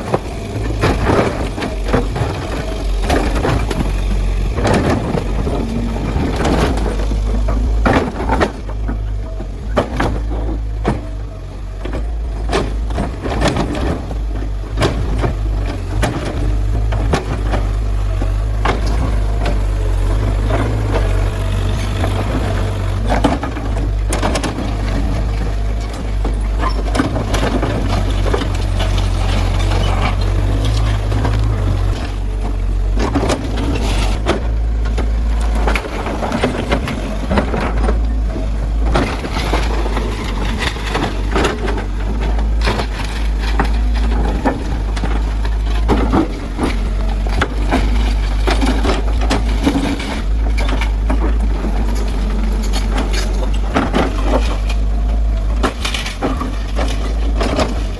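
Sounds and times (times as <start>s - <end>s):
debris cracking and crunching: 0.0s - 57.9s
excavator diesel engine running: 0.0s - 57.9s.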